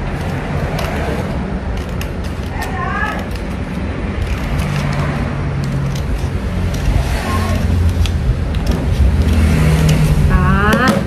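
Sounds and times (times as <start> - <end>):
scissors snipping paper: 0.0 - 10.8.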